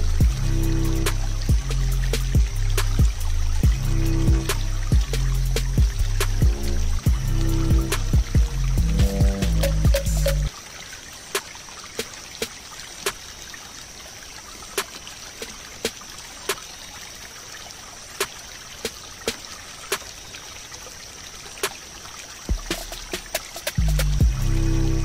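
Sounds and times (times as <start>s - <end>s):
aquarium water trickling: 0.0s - 25.0s.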